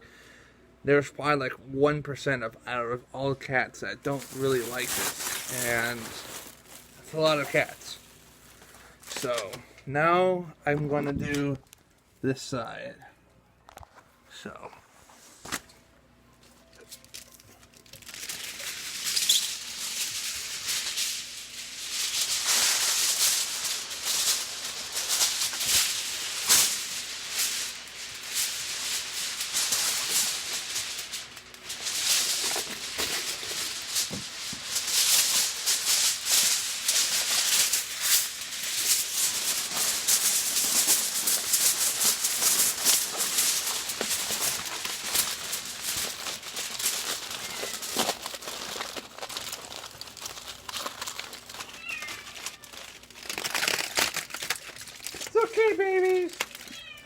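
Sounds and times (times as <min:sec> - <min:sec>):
aluminium foil crinkling: 0:04.0 - 0:09.6, 0:16.4 - 0:57.0.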